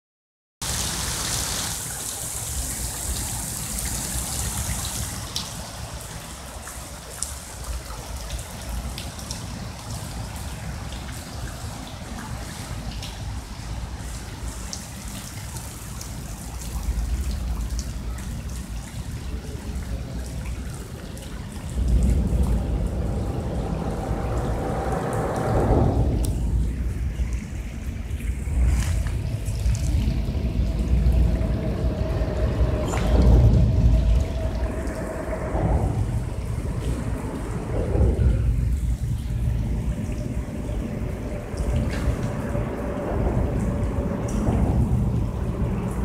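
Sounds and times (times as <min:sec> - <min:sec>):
rain falling on water: 0:00.6 - 0:46.0
wind rumble on microphone: 0:00.7 - 0:46.0.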